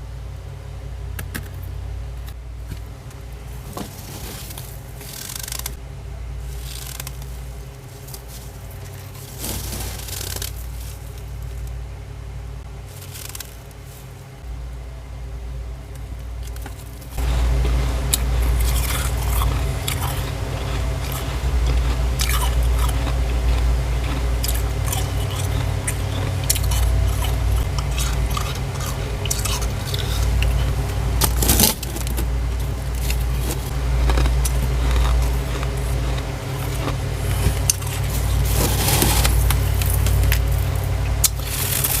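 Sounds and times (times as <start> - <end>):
steady low hum: 0.0 - 42.0
frost crunching as scraped: 3.4 - 5.8, 6.4 - 11.7, 12.8 - 14.4, 16.5 - 42.0.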